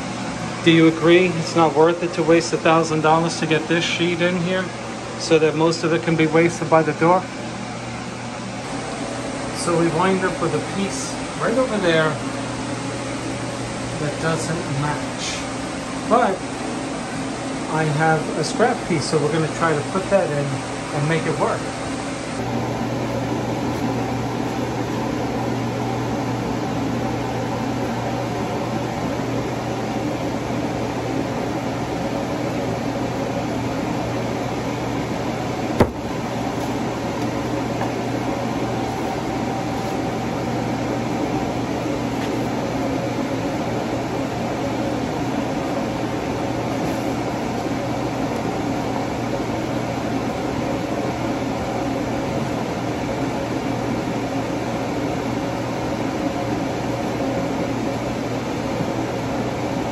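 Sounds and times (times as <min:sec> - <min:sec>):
ventilation unit humming: 0:00.0 - 0:59.9.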